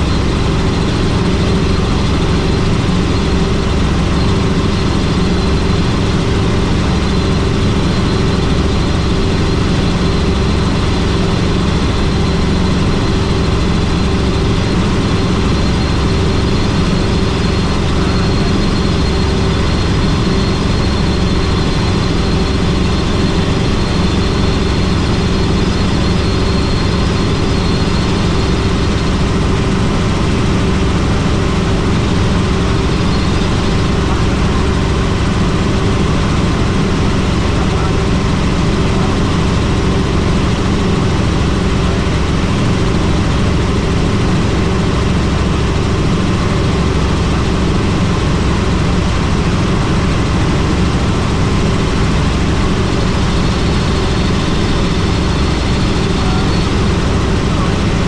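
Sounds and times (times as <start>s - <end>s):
faint high whine: 0.0s - 58.0s
helicopter engine and rotor: 0.0s - 58.0s.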